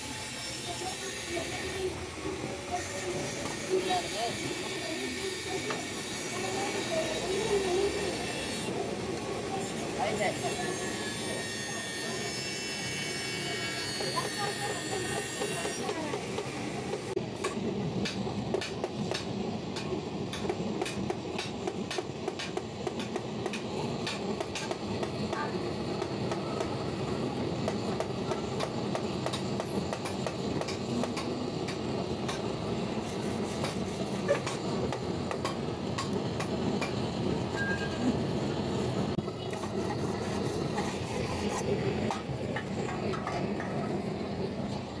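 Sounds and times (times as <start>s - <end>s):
blowtorch burning steadily: 0.0s - 45.0s.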